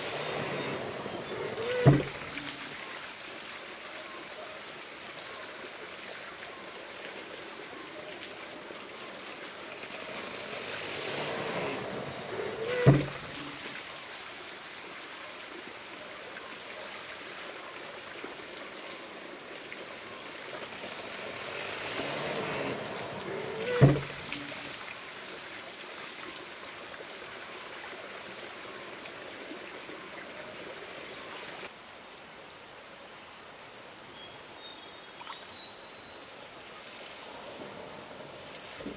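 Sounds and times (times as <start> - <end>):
water spilling from trough: 0.0 - 31.7
water trickling: 0.0 - 31.7
outdoor hiss: 0.0 - 38.9.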